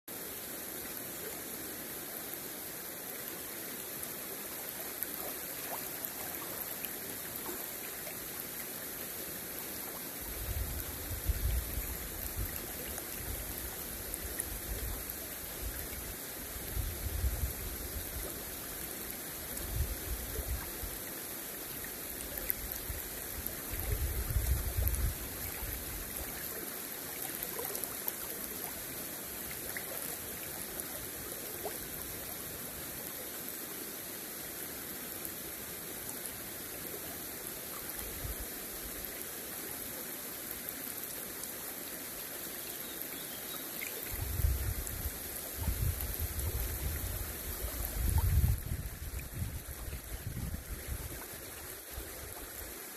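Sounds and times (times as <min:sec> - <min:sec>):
river flowing over stones: 0:00.1 - 0:52.9.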